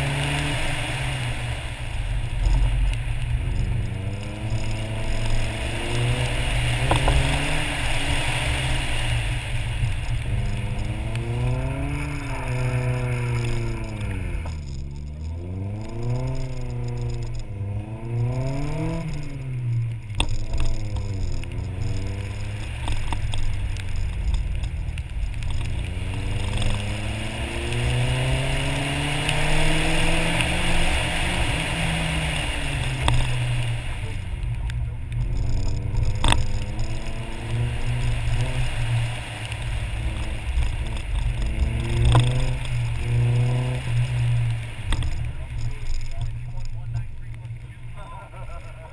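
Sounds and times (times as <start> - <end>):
car engine revving: 0.0 - 48.9
tyres hissing on wet pavement: 0.0 - 48.9.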